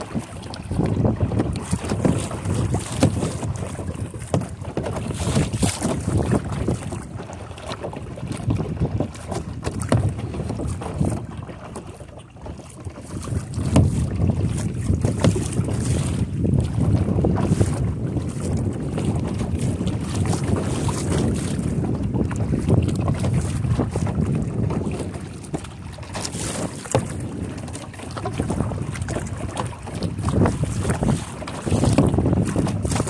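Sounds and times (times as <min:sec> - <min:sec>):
wind buffeting microphone: 0:00.0 - 0:12.1, 0:12.9 - 0:33.0
paddle splashing water: 0:00.0 - 0:33.0.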